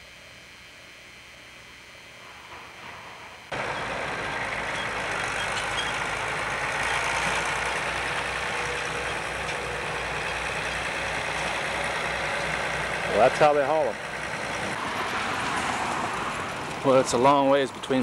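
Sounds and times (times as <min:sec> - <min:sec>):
tractor engine running: 0:03.5 - 0:18.0.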